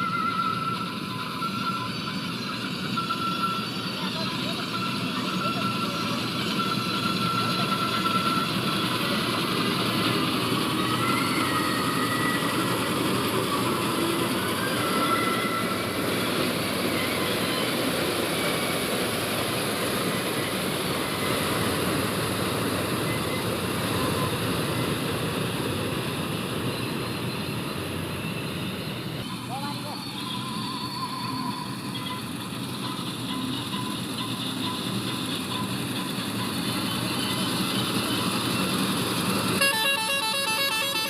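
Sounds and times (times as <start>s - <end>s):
heavy farm machinery running: 0.0s - 41.0s.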